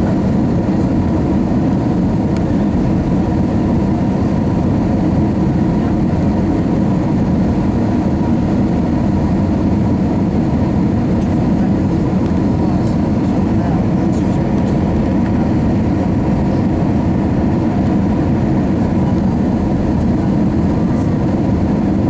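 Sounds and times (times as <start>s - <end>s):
airplane cabin airflow rush: 0.0s - 22.0s.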